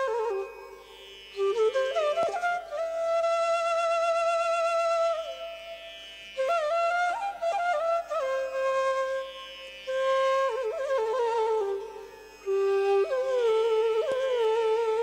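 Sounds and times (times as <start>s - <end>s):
flute melody: 0.0s - 5.8s, 6.4s - 15.0s.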